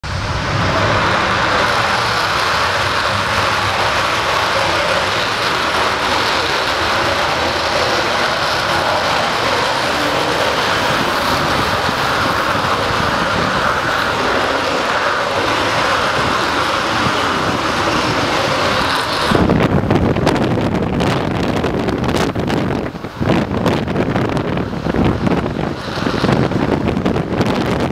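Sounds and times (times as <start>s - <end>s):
afterburner rumble with crackle: 0.0s - 27.9s
jet engines at high power: 0.0s - 27.9s.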